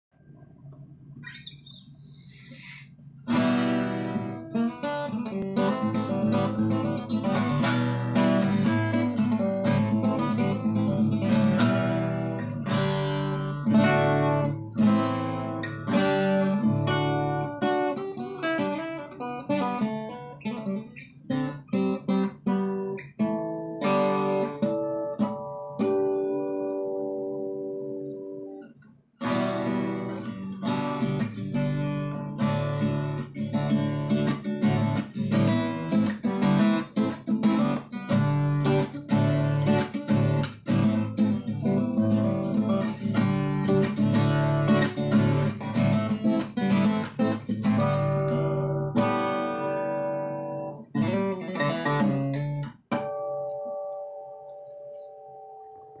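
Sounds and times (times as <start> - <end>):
acoustic guitar chords: 1.4 - 56.0.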